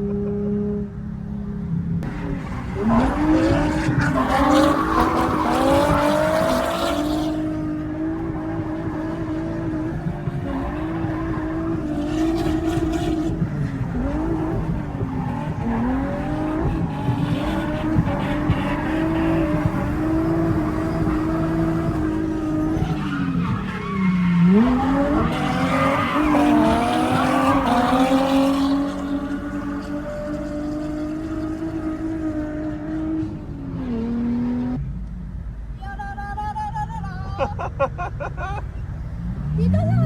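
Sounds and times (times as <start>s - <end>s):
car engine at high revs: 0.0s - 35.4s.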